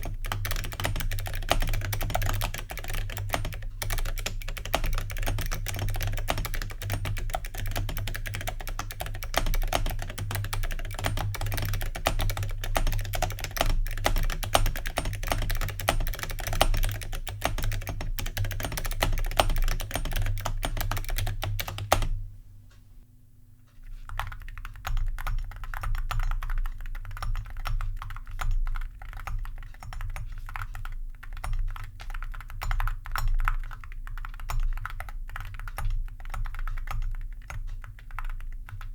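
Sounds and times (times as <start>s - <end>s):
loud clicky keyboard typing: 0.0s - 22.2s, 24.1s - 38.9s
quieter keyboard typing: 0.0s - 23.1s, 23.7s - 38.9s.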